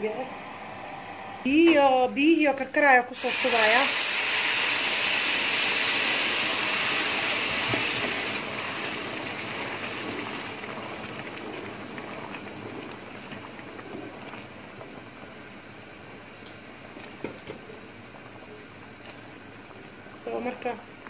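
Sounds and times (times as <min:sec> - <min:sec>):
hissing sizzle: 0:00.0 - 0:21.0
water bubbling boil: 0:00.0 - 0:21.0.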